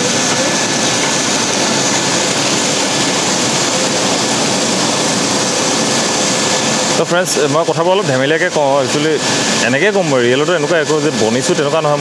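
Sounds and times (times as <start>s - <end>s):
car wash brushes and water spray: 0.0s - 11.4s
faint constant whine: 0.0s - 12.0s.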